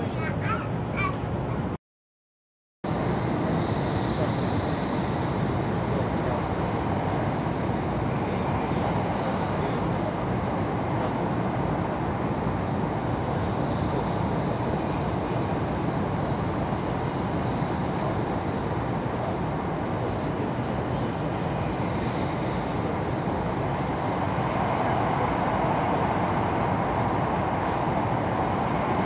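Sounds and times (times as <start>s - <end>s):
train running noise: 2.9s - 29.0s.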